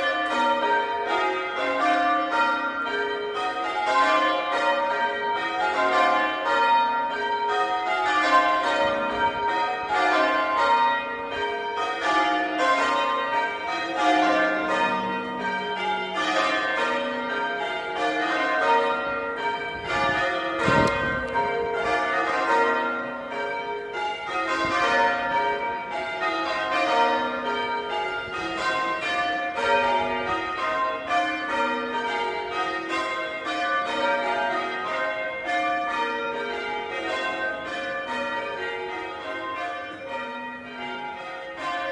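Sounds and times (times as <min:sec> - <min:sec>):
church bells change ringing: 0:00.0 - 0:41.9.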